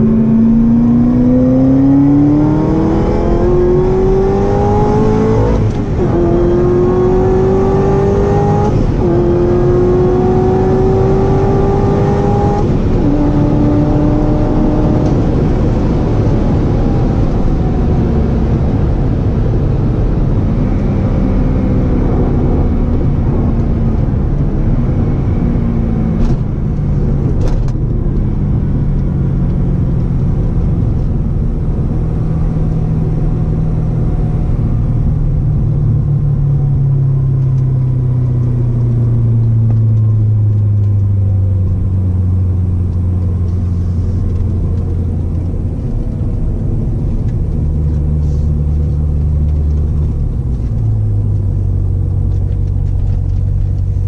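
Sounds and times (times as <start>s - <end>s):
car engine from inside cabin: 0.0s - 54.0s
road noise: 0.0s - 54.0s.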